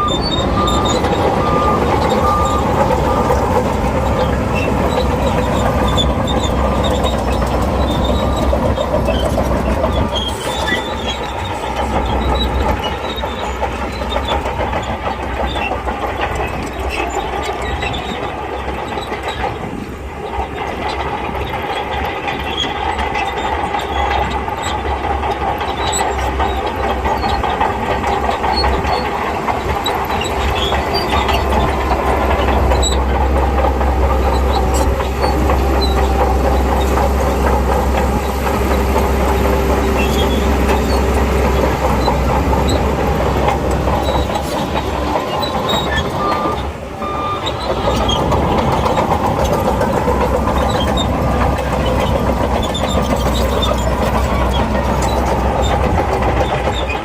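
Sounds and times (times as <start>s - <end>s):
bulldozer diesel engine under load: 0.0s - 57.0s
steel tracks clanking: 0.0s - 57.0s.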